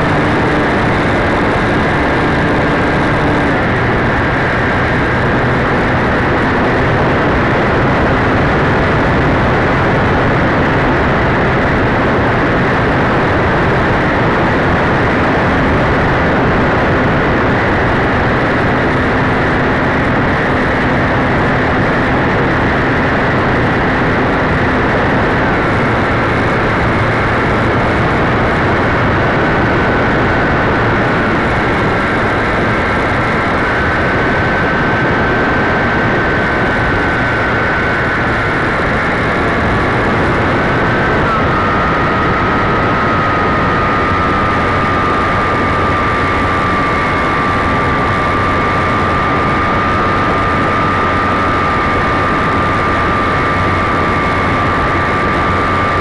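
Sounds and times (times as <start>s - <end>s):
loud constant air rush: 0.0s - 56.0s
model airplane motor whine: 0.0s - 56.0s.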